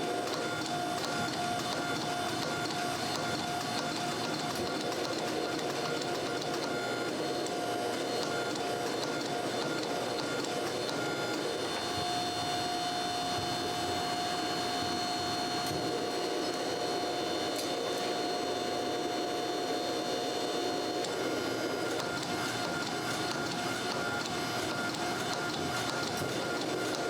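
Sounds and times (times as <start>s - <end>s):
machine whining: 0.0s - 27.0s.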